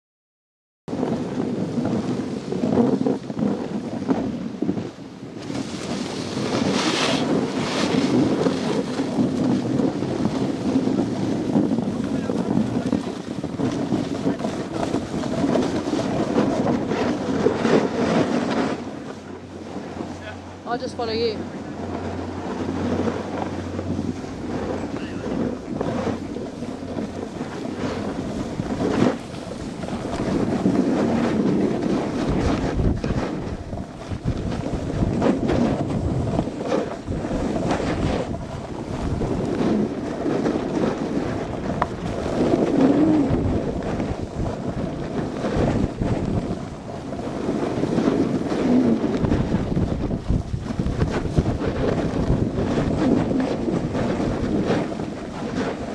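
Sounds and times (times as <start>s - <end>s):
skis scraping on snow: 0.9s - 55.9s
wind buffeting microphone: 0.9s - 55.9s.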